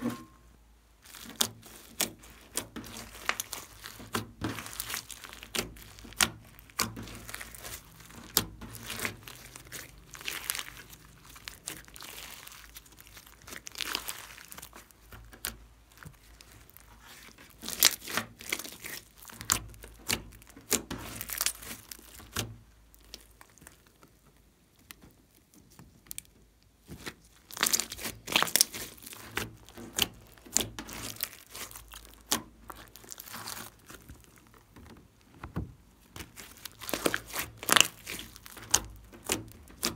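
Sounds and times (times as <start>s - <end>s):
slime squishing and crackling: 1.0s - 39.9s.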